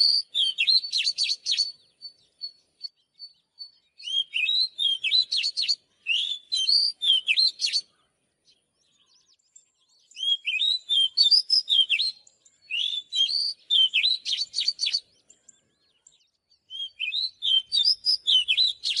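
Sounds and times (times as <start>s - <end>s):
bird singing whistled notes: 0.0s - 19.0s.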